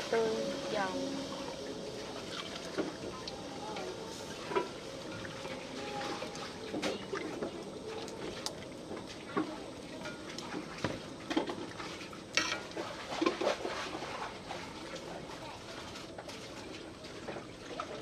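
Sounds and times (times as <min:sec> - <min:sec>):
water at a rolling boil: 0:00.0 - 0:18.0.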